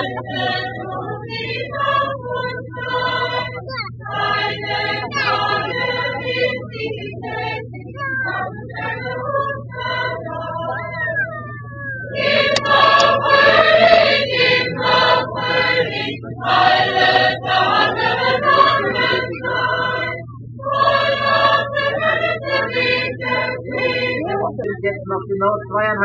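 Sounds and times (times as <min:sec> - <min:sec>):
choir singing: 0:00.0 - 0:11.3, 0:12.1 - 0:24.6
steady low hum: 0:00.0 - 0:26.0.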